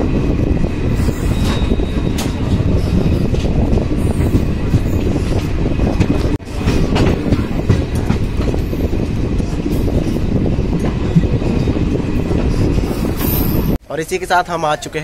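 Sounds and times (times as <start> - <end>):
train wheels on rails: 0.0 - 13.8.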